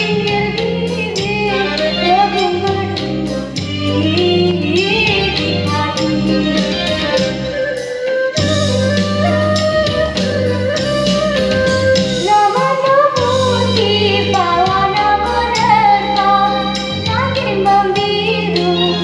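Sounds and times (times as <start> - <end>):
instrumental backing track: 0.0 - 19.0
woman singing: 0.0 - 19.0.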